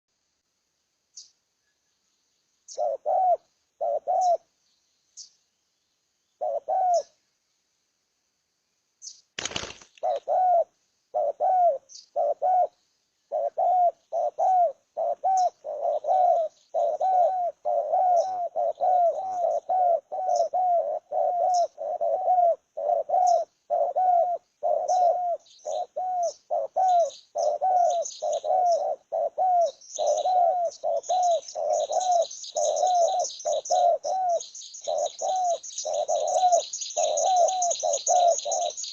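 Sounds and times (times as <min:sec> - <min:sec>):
bird repeated call: 0:02.6 - 0:04.6, 0:06.3 - 0:07.3, 0:09.0 - 0:38.9.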